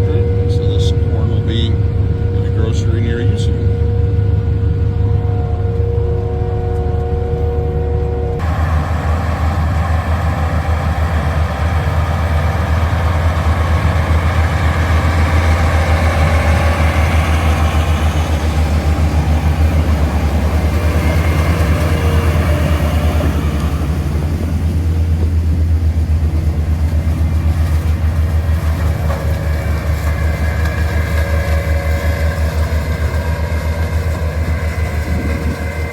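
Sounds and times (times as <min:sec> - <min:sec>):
low engine drone: 0:00.0 - 0:35.9
machinery noise: 0:00.0 - 0:35.9.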